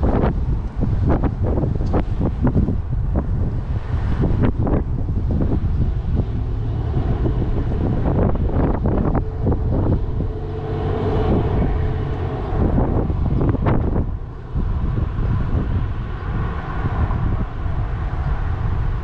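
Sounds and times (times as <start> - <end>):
road traffic: 0.0 - 19.0
wind buffeting microphone: 0.0 - 19.0.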